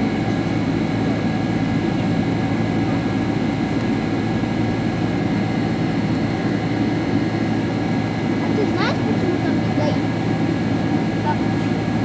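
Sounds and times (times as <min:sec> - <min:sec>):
jet engines and airflow in cabin: 0:00.0 - 0:12.0.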